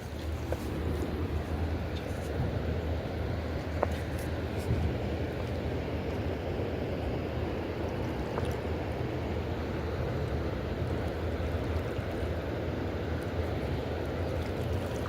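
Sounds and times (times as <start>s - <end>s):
river water rushing below a dam: 0.0s - 15.0s.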